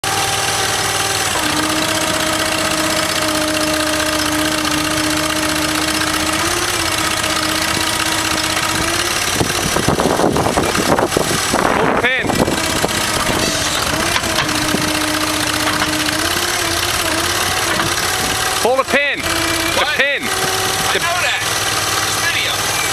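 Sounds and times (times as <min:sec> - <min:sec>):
knocks and clatter: 0:00.0 - 0:22.2
engine running: 0:00.0 - 0:22.9
hydraulic whine: 0:00.0 - 0:22.9.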